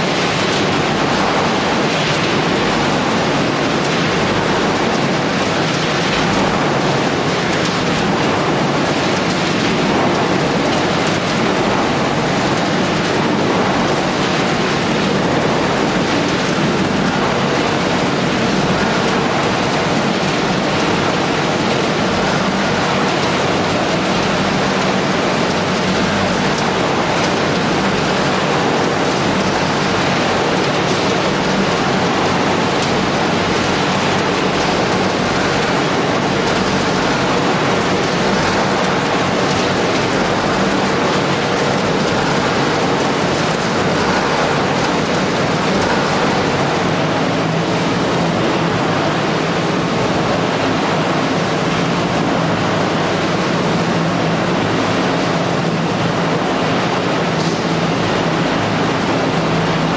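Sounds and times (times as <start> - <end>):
industrial shredding machinery: 0.0 - 59.9.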